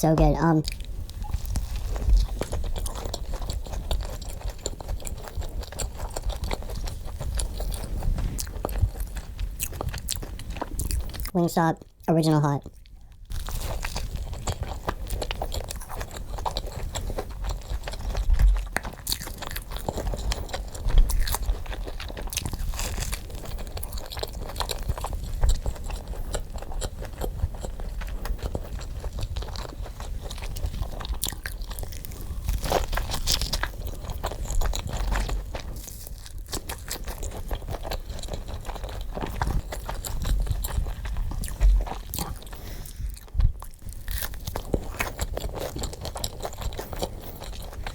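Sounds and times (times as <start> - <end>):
person chewing crispy food: 0.4 - 47.9.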